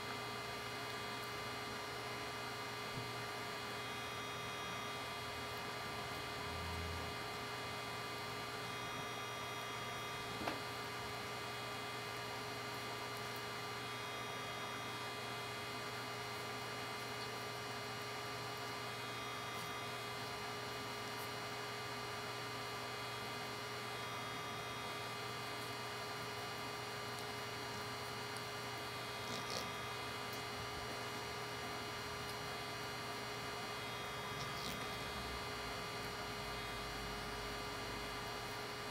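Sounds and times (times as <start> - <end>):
electrical hum: 0.0 - 38.9.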